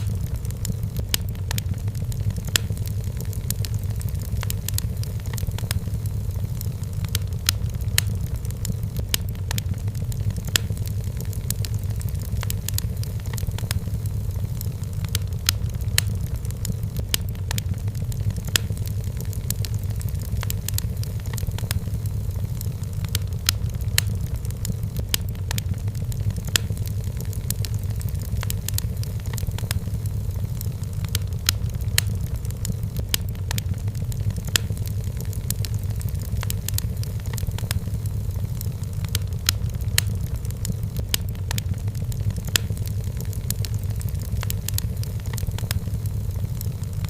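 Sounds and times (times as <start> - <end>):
firewood crackling and popping: 0.0 - 47.0
low rumble of fire: 0.0 - 47.0.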